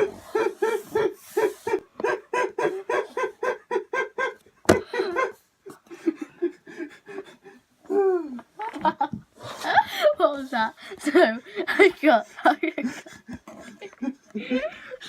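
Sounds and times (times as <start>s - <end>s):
girl laughing: 0.0s - 5.4s, 7.9s - 15.0s.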